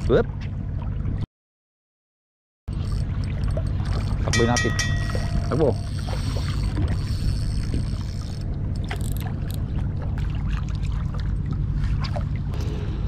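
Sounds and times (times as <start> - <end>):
wind: 0.0 - 1.3, 2.7 - 13.0.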